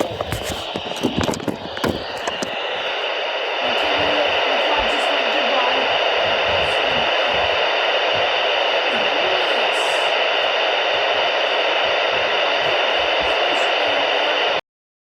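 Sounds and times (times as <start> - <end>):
radio static hiss: 0.0 - 14.6.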